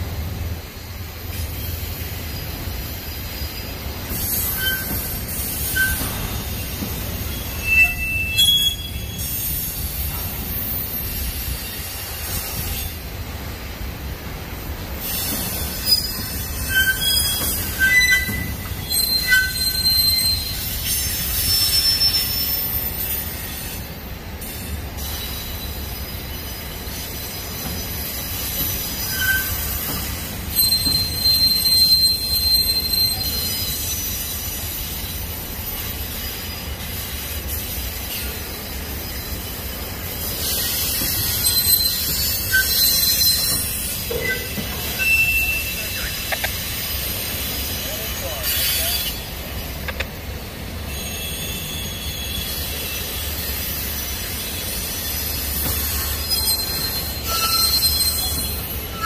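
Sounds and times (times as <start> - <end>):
train rolling past rumbling: 0.0 - 59.0
wheels squealing: 1.3 - 13.1, 15.0 - 59.0.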